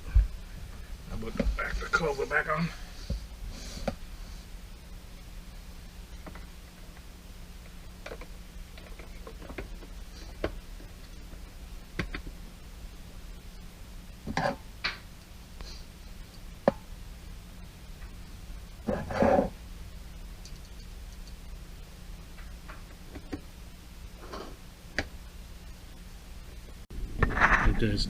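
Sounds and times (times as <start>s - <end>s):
faint steady low hum: 0.0s - 28.0s.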